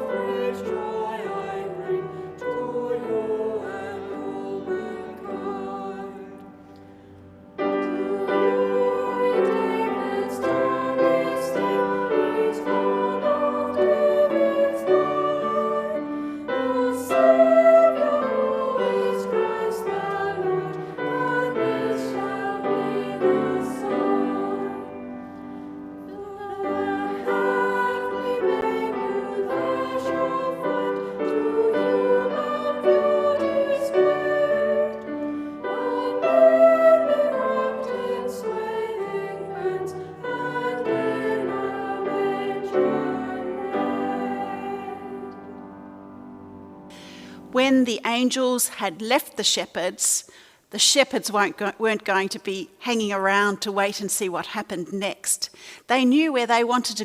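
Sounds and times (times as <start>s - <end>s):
high-voiced choir singing: 0.0s - 47.6s
piano accompaniment: 0.0s - 47.8s.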